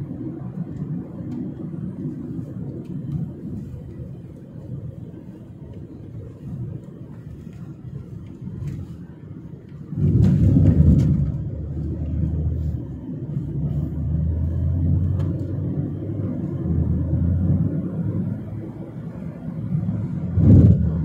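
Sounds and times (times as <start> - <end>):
engine and road noise inside car: 0.0 - 21.0.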